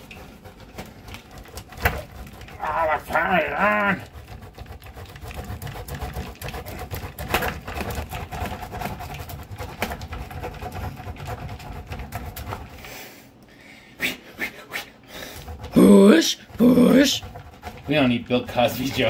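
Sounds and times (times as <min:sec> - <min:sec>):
cheese grating on metal grater: 0:00.0 - 0:12.8, 0:15.2 - 0:19.0.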